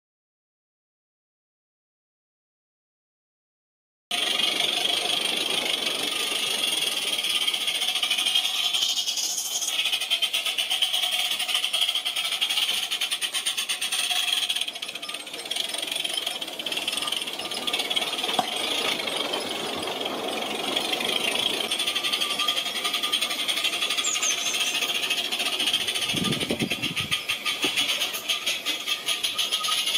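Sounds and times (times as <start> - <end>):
model steam locomotive chuffing: 4.1 - 29.9
steam hissing: 4.2 - 29.9.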